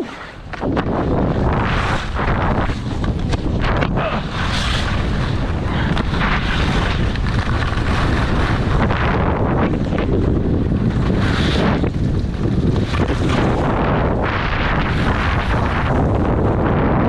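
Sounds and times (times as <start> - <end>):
skis scraping over hard snow: 0.0 - 17.0
wind buffeting microphone: 0.0 - 17.0.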